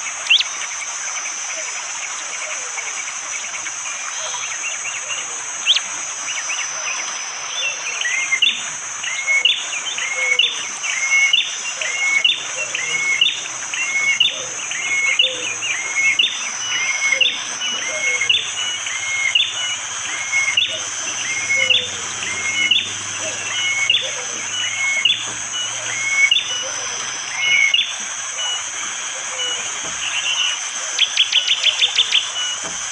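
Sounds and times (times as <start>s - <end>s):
steady high hiss: 0.0s - 32.9s.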